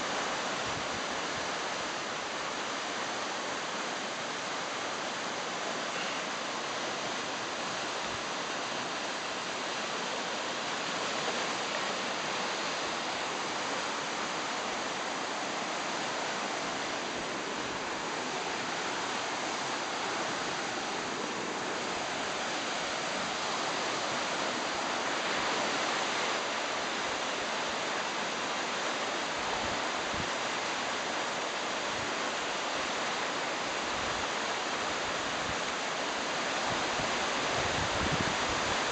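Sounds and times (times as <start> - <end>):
river rushing over rapids: 0.0 - 38.9.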